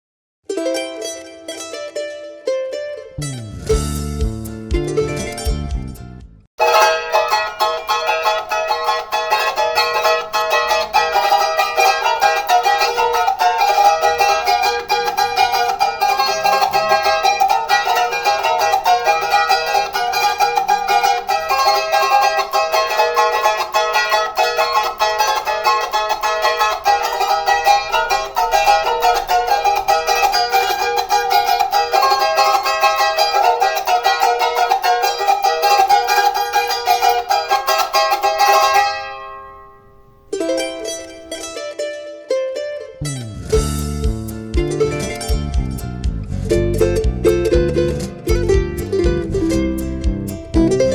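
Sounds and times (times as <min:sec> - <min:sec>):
small charangos strummed rapidly: 0:00.5 - 0:50.9.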